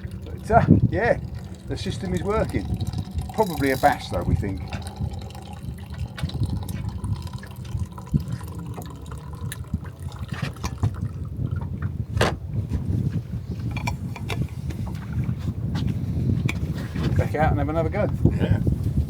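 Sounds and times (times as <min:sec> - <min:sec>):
water lapping against boat hull: 0:00.0 - 0:17.4.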